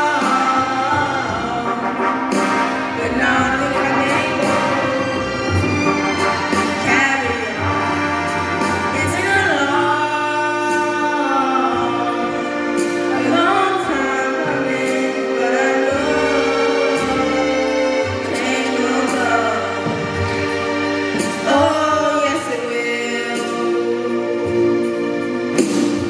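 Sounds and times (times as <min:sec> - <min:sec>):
person singing long notes: 0:00.0 - 0:25.2
musical accompaniment: 0:00.0 - 0:26.0.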